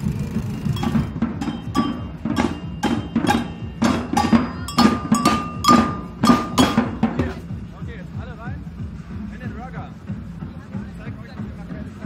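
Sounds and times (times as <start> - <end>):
drum band playing marching rhythm: 0.0 - 12.0.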